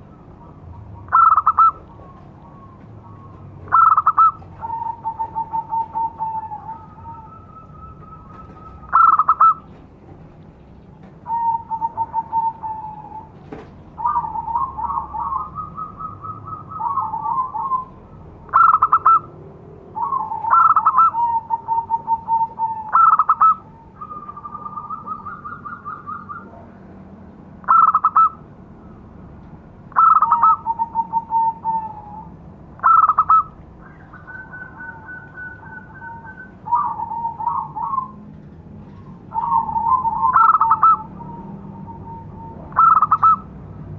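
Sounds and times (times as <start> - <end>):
dove cooing: 0.0 - 10.4, 11.0 - 26.8, 27.6 - 29.0, 29.9 - 43.9.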